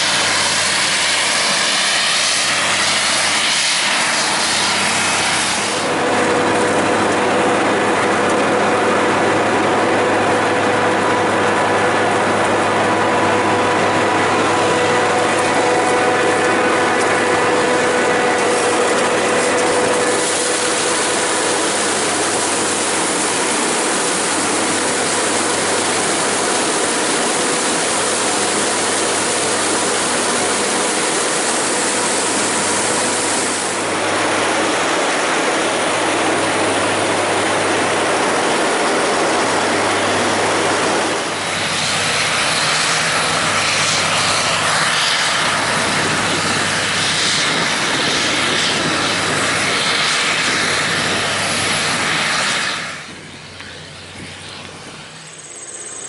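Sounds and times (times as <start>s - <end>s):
forage harvester running: 0.0s - 56.0s
faint high whine: 10.0s - 56.0s.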